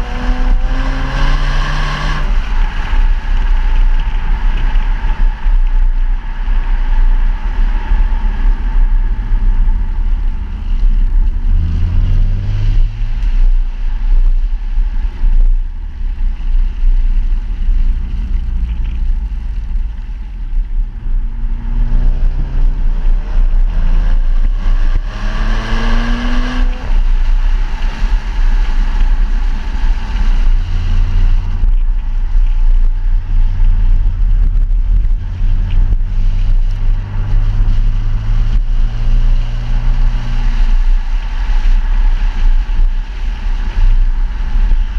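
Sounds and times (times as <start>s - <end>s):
car engine revving: 0.0s - 5.4s, 7.5s - 13.6s, 16.0s - 44.9s.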